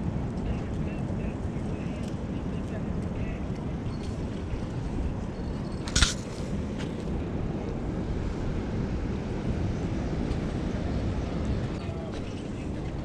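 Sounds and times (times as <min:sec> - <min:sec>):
low wind rumble on microphone: 0:00.0 - 0:13.0.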